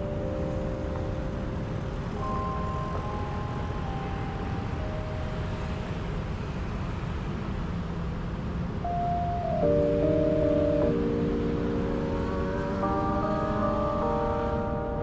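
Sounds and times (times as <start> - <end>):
soft music of held chords: 0.0 - 7.6, 8.3 - 15.0
low city rumble: 0.0 - 15.0.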